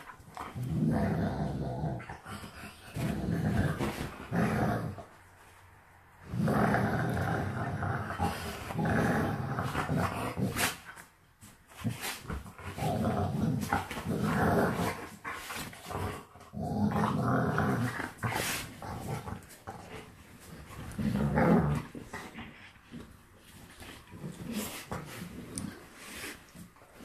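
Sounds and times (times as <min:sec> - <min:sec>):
dogs play growling: 0:00.0 - 0:27.0.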